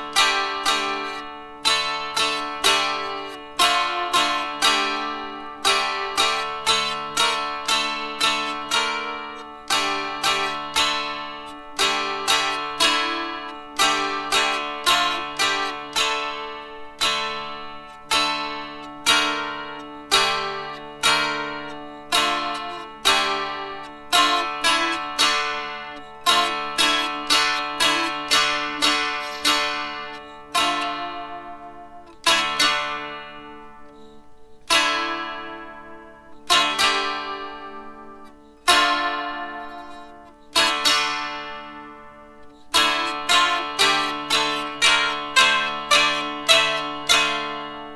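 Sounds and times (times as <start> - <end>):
plucked dulcimer melody: 0.0 - 47.9.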